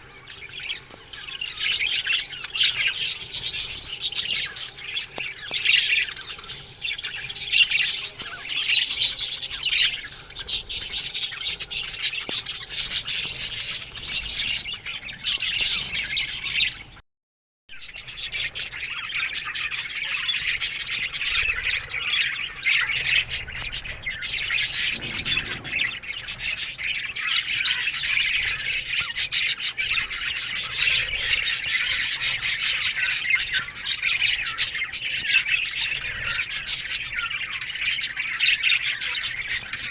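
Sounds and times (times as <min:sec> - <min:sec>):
birds chirping and chattering: 0:00.0 - 0:17.0, 0:17.7 - 0:39.9.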